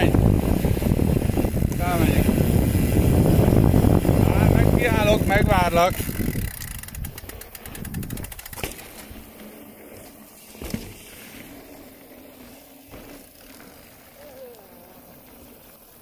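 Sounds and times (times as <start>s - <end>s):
bicycle freewheel hub ticking: 0.0s - 16.0s
bicycle rolling noise: 0.0s - 16.0s.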